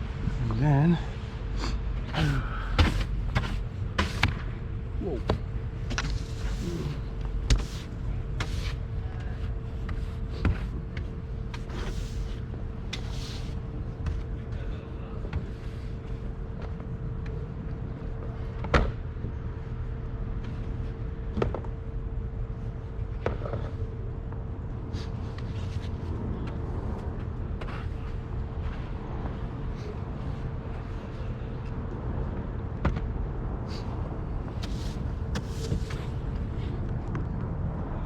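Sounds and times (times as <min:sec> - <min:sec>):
faint hum: 0:00.0 - 0:38.0
steady low rumble: 0:00.0 - 0:38.0.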